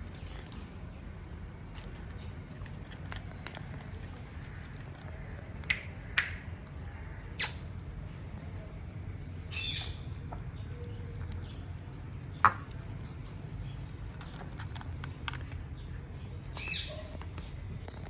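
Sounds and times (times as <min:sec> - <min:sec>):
cats crunching dry biscuits: 0:00.0 - 0:09.4, 0:10.0 - 0:18.0.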